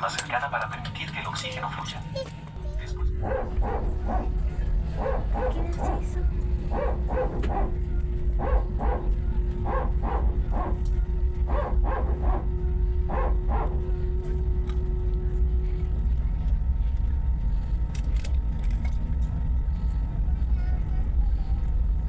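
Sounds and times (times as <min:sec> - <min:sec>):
airliner cabin rumble: 0:00.0 - 0:22.0
faint steady hum: 0:00.0 - 0:22.0.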